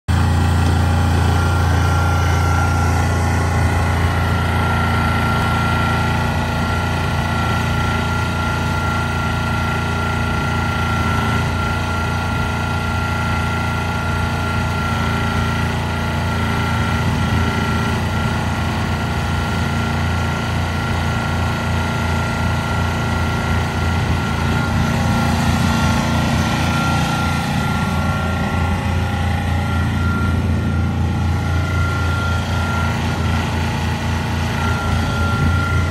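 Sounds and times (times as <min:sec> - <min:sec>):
high whine: 0:00.1 - 0:19.6, 0:22.2 - 0:35.9
excavator engine running: 0:00.1 - 0:35.9.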